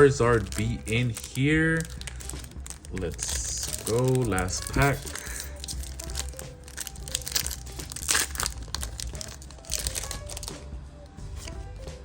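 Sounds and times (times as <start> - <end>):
foil wrapper tearing and crinkling: 0.0 - 10.6.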